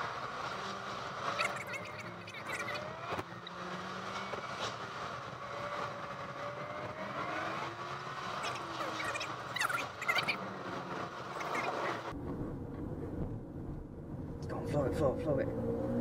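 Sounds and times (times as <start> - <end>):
car engine: 0.0 - 16.0.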